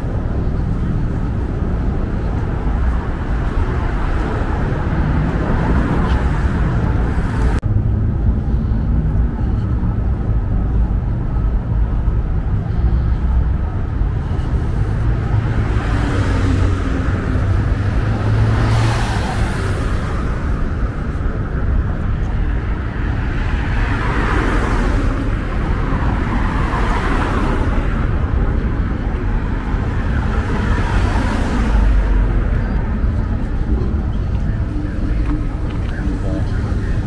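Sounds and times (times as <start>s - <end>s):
rumble of traffic: 0.0s - 37.0s.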